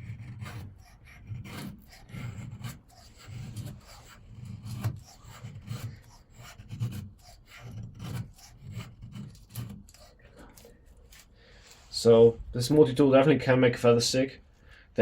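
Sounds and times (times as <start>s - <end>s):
knife scraping wooden stick: 0.0s - 12.2s.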